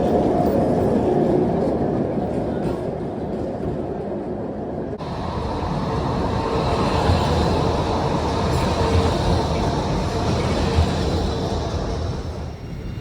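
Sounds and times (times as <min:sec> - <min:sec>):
faint tram hum: 0:00.0 - 0:13.0
tram rumbling on rails: 0:00.0 - 0:13.0.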